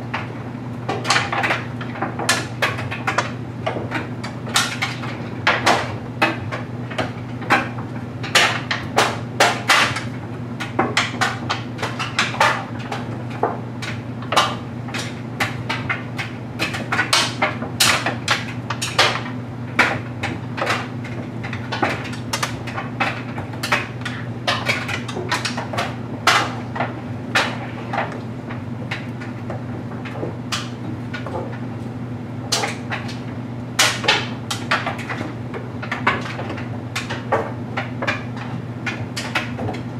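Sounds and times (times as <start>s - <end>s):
clothes dryer humming: 0.0s - 39.9s.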